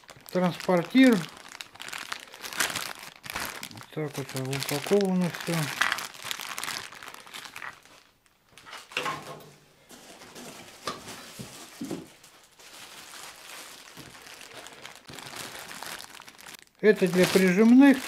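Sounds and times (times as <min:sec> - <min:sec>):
plastic bags crinkling: 0:00.0 - 0:09.0, 0:09.8 - 0:18.0.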